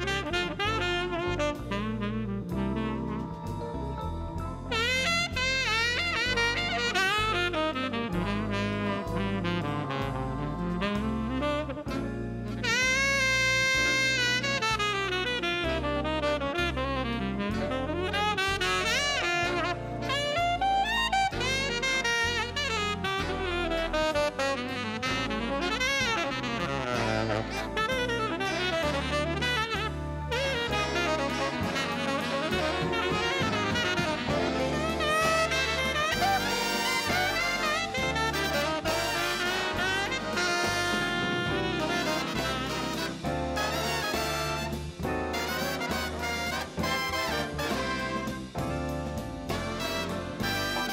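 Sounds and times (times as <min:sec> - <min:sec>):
bass: 0:00.0 - 0:50.9
drum kit: 0:00.0 - 0:50.9
saxophone solo: 0:00.0 - 0:50.9.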